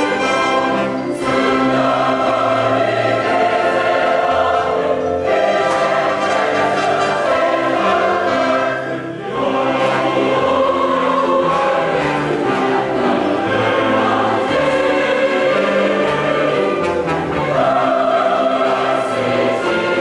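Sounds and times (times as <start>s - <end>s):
choir singing: 0.0s - 20.0s
strings accompanying: 0.0s - 20.0s.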